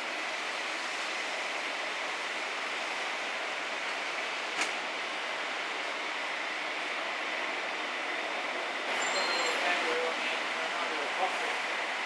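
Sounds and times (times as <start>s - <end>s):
jet engines hissing at idle: 0.0s - 12.0s.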